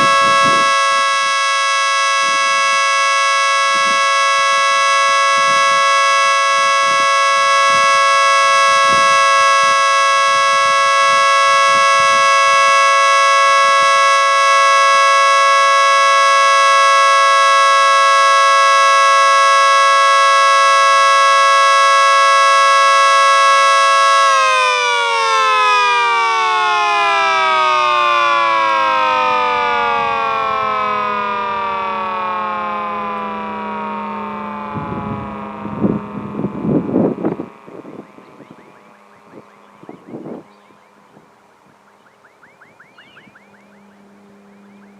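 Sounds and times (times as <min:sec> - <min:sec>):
civil defense siren winding down: 0:00.0 - 0:44.9.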